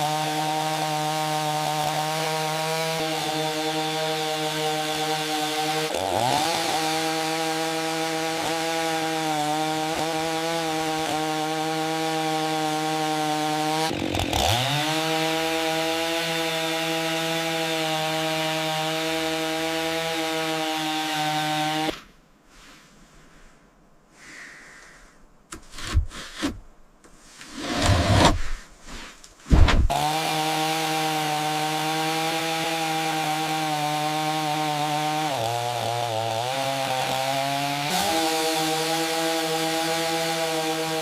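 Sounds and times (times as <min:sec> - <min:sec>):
chainsaw running: 0:00.0 - 0:21.9, 0:29.9 - 0:41.0.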